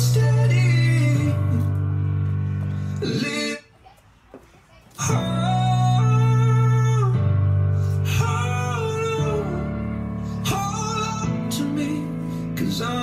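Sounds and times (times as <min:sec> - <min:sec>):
person singing: 0:00.0 - 0:01.9, 0:02.6 - 0:03.9, 0:05.0 - 0:13.0
bass: 0:00.0 - 0:03.4, 0:05.0 - 0:13.0.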